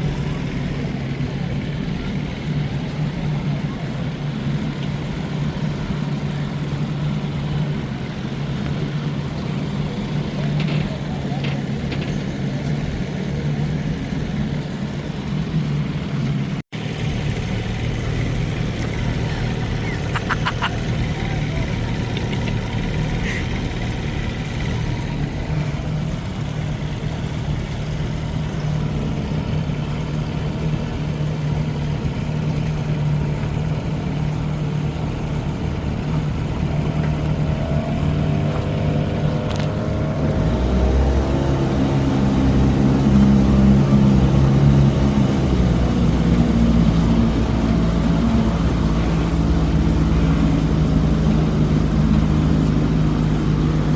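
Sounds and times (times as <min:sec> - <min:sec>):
outboard motor running: 0:00.0 - 0:53.9.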